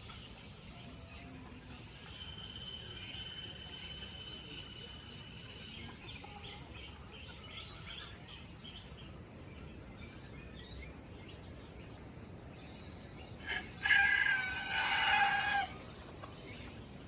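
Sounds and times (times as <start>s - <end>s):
small birds chirping: 0.0s - 17.0s
steady background noise: 0.0s - 17.0s.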